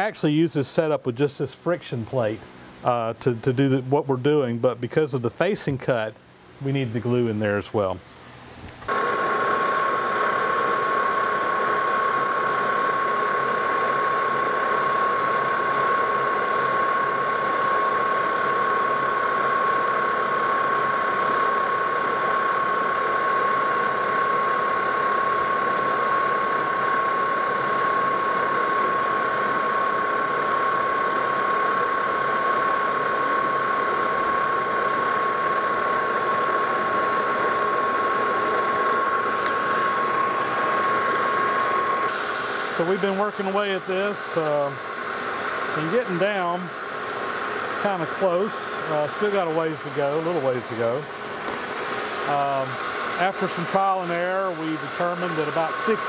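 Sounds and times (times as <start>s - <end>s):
high-pitched cutting whine: 8.9s - 56.0s
metal lathe running: 8.9s - 56.0s.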